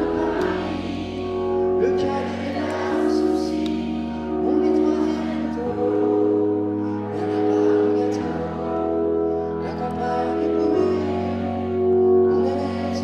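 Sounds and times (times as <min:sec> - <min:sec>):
bass notes: 0:00.0 - 0:13.0
keyboard chords: 0:00.0 - 0:13.0.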